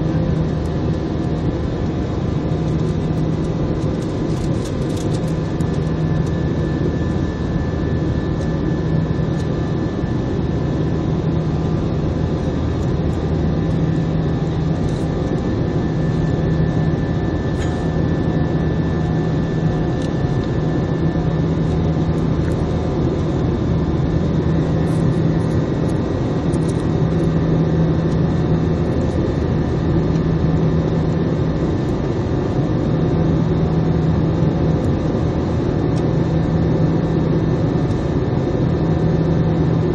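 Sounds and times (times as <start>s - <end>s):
jet engine drone in cabin: 0.0s - 39.9s
low hum: 0.0s - 39.9s.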